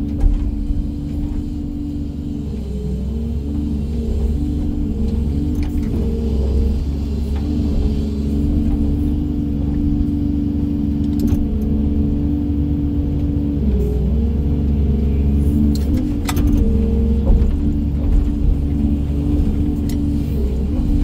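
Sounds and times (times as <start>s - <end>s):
excavator engine hum: 0.0s - 21.0s
hydraulic whine: 0.0s - 21.0s.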